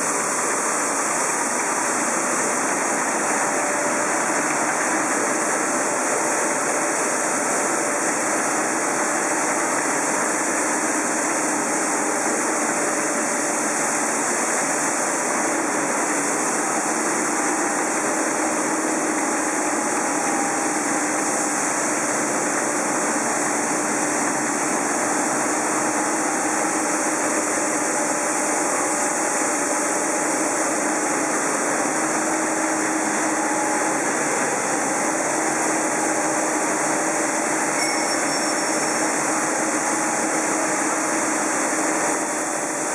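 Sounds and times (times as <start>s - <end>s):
extruder machine running: 0.0s - 42.9s.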